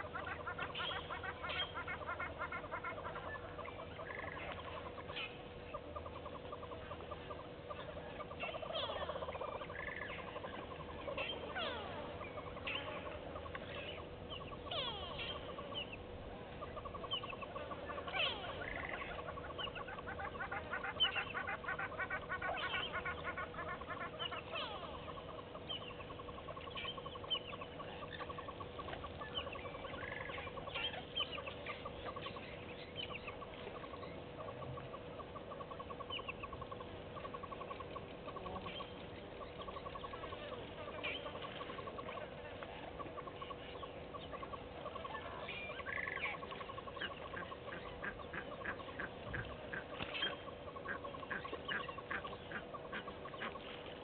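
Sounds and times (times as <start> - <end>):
birds making short high calls: 0.0 - 54.0
faint steady hum: 0.0 - 54.0
fast steady bird trill: 0.0 - 54.0.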